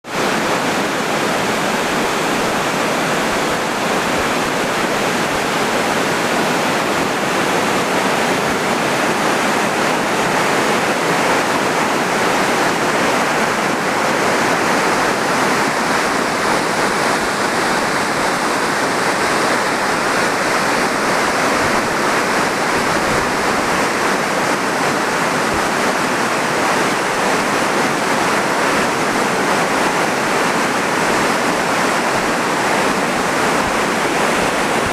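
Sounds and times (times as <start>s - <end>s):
river water rushing over dam: 0.0s - 34.9s.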